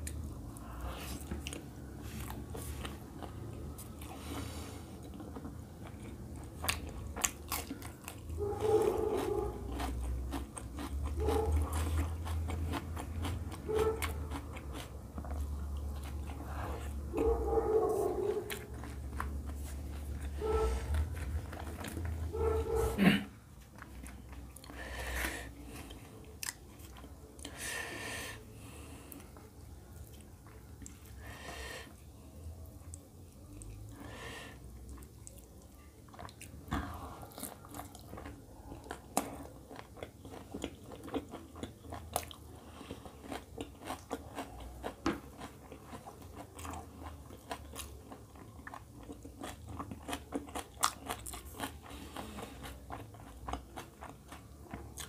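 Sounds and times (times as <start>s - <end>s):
wet chewing sounds: 0.0s - 27.6s, 28.6s - 55.0s.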